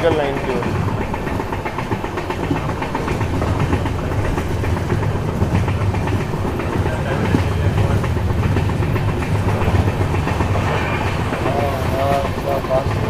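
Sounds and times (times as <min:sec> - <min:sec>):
train running gear rumbling: 0:00.0 - 0:13.0
wheels clickety-clack over rails: 0:00.0 - 0:13.0.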